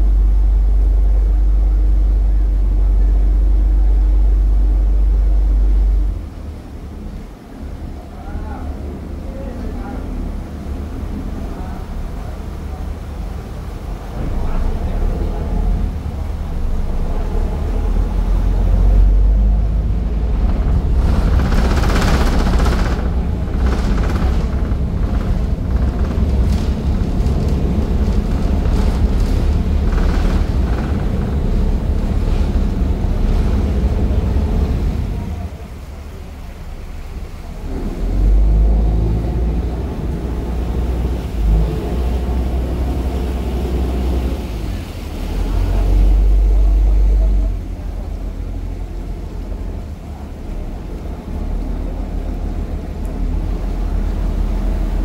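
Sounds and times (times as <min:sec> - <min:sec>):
ferry engines rumbling: 0:00.0 - 0:55.0.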